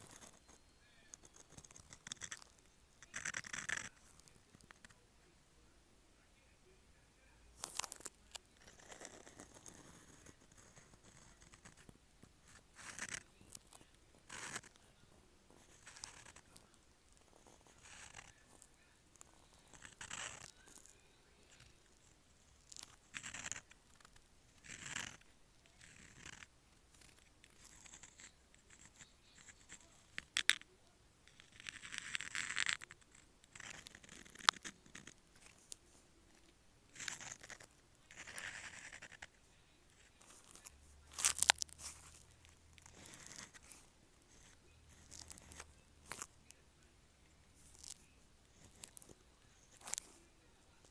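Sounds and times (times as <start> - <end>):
pen nib scratching on paper: 0.0 - 5.0, 7.6 - 46.6, 47.2 - 50.9.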